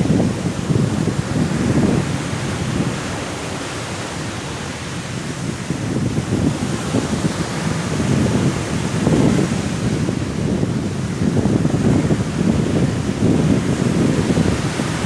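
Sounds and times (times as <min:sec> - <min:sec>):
sea waves washing ashore: 0:00.0 - 0:15.0
strong wind: 0:00.0 - 0:15.0.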